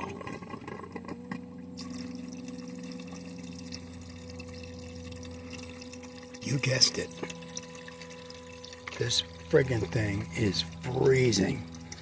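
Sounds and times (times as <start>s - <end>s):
pump humming: 0.0s - 12.0s
water trickling and pouring: 0.0s - 12.0s.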